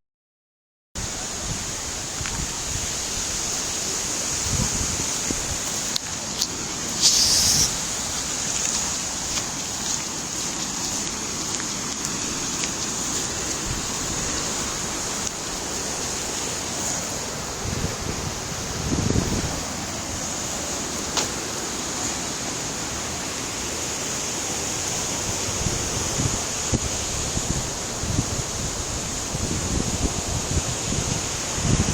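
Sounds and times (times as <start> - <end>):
wind buffeting microphone: 1.0 - 21.7, 25.2 - 31.9
floodwater rushing: 1.0 - 31.9.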